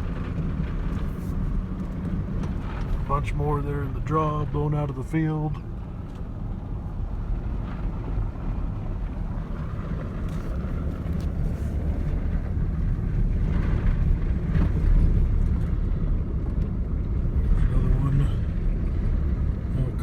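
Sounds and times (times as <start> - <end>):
vehicle driving on road: 0.0 - 20.0.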